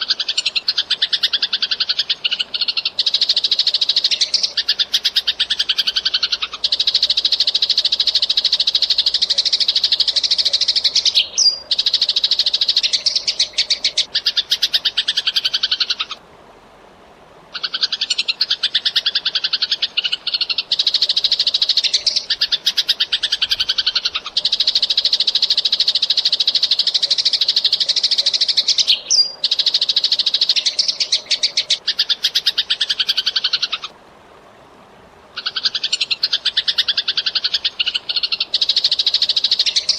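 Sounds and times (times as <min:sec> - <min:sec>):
sparrow chattering high chirps: 0:00.0 - 0:16.2, 0:17.6 - 0:33.9, 0:35.4 - 0:39.9.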